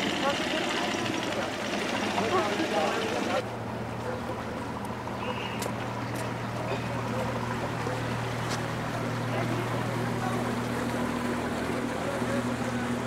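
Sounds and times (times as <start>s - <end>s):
boat engine running slowly: 0.0s - 13.0s.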